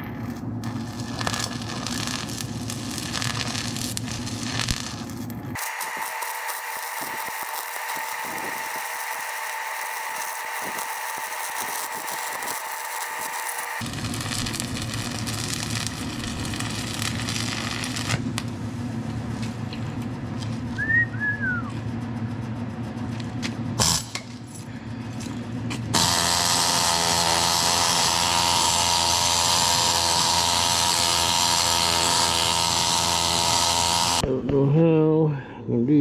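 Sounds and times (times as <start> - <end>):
welding arc crackling hiss: 0.0 - 20.8, 23.2 - 24.4, 25.7 - 34.2
steady machine hum: 0.0 - 36.0.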